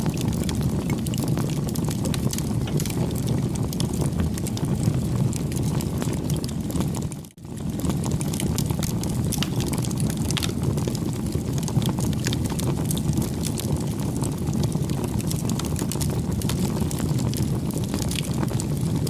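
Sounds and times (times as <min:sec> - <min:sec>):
fire crackles and pops: 0:00.0 - 0:19.0
wood fire rushing flames: 0:00.0 - 0:19.0.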